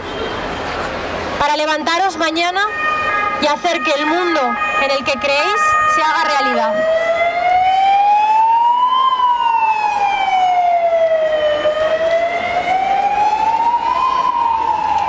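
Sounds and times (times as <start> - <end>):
siren wailing: 2.4 - 15.0.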